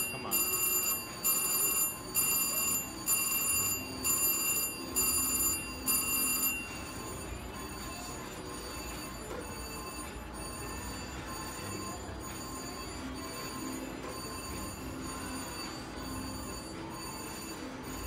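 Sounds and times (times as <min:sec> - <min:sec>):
casino background noise: 0:00.0 - 0:18.0
slot machine bell chime: 0:00.0 - 0:18.0.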